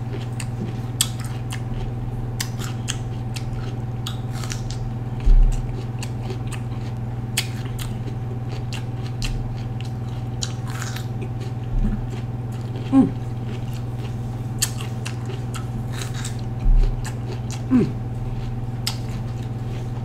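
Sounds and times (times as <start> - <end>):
crunchy chewing of pepper: 0.0 - 20.0
low electrical hum: 0.0 - 20.0.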